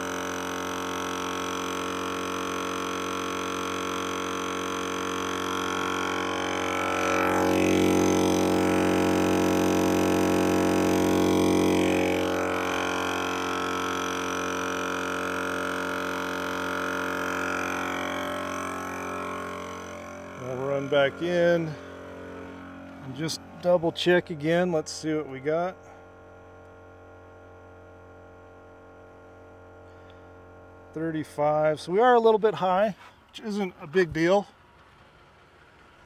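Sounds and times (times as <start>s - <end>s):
air compressor droning hum: 0.0s - 35.8s.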